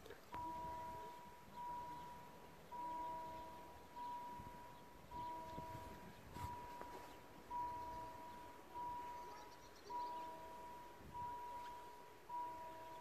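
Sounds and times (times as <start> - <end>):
level-crossing warning bell ringing: 0.3 - 13.0.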